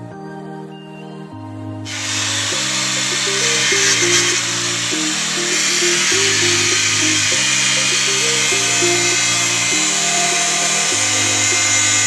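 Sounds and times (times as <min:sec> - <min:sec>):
background music: 0:00.0 - 0:12.0
angle grinder grinding pipe: 0:01.9 - 0:12.0.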